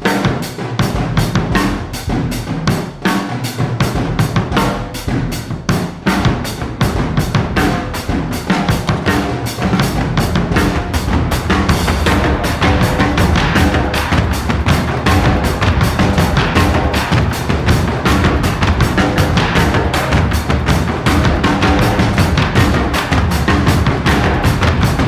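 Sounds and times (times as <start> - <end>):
music with driving drum beat: 0.0 - 25.0.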